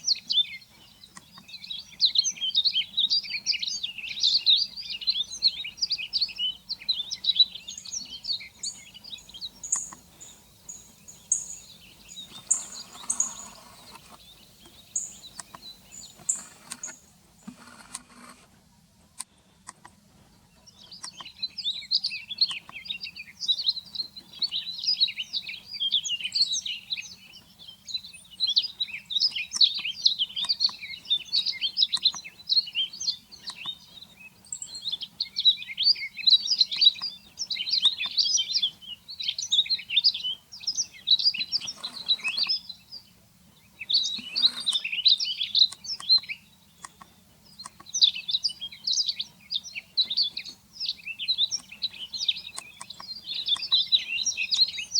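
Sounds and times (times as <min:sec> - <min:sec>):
small birds twittering: 0:00.0 - 0:54.9.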